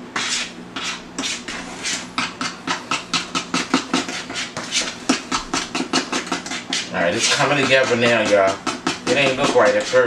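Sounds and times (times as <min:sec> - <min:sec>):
utensil beating batter in plastic bowl: 0:00.2 - 0:10.0.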